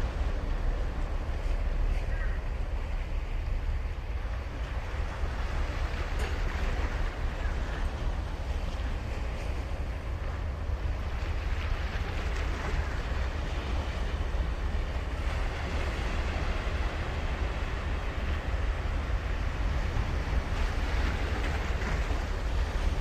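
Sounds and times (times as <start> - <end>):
waves breaking on beach: 0.0 - 23.0
wind rumble on microphone: 0.0 - 23.0.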